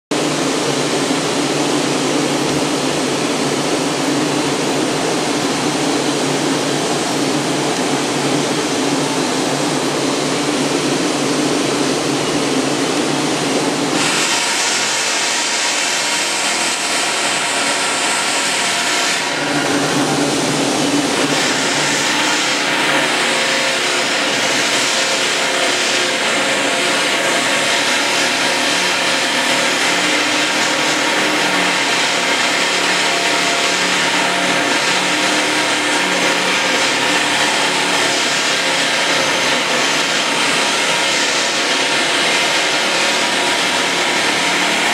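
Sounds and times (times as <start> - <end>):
mechanical noise with low hum: 0.1 - 44.9.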